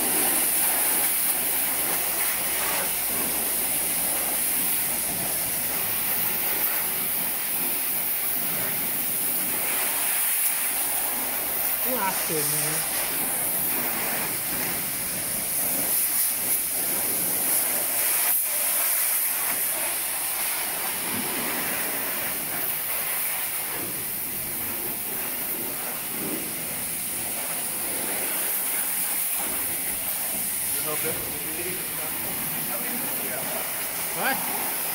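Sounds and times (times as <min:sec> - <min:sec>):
pressure washer spraying water: 0:00.0 - 0:34.9.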